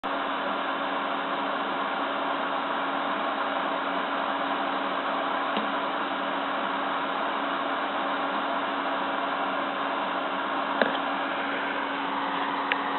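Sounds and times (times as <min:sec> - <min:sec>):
computer fan running: 0:00.0 - 0:12.9.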